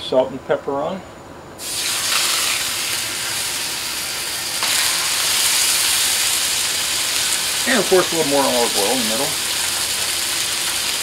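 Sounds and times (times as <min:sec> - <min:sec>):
meat sizzling on a griddle: 0:01.6 - 0:11.0.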